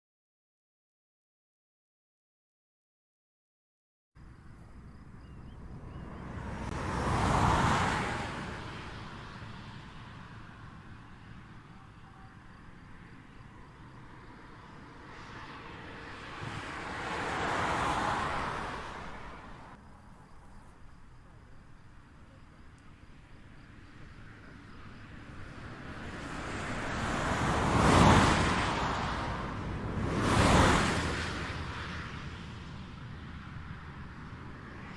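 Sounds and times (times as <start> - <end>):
low road rumble: 4.2 - 34.9
vehicles passing: 4.2 - 34.9.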